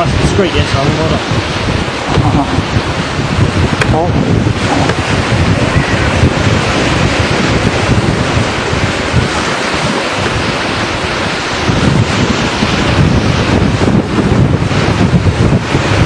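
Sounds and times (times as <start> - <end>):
heavy low rumble: 0.0 - 16.0
small waves breaking on beach: 0.0 - 16.0
wind buffeting microphone: 0.0 - 16.0.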